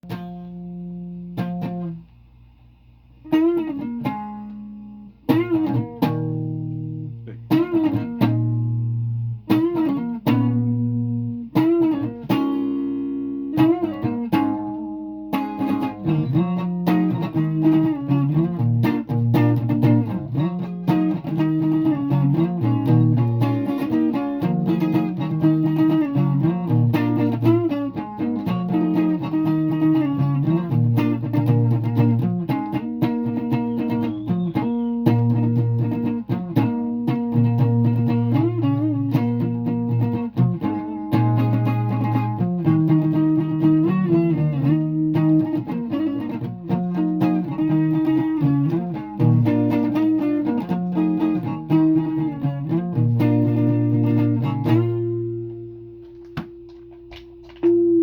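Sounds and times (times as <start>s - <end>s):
guitar playing: 0.0s - 2.2s, 3.2s - 58.0s.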